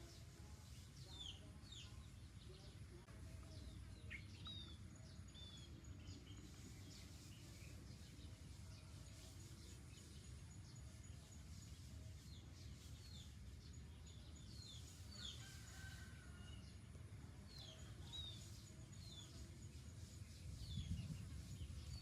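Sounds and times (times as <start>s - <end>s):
faint bird chirping: 0.0s - 22.0s
low outdoor rumble: 0.0s - 22.0s.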